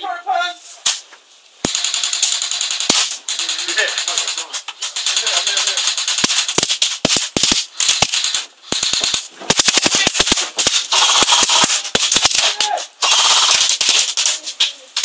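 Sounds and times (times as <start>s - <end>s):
airsoft guns firing bursts: 1.7s - 14.4s.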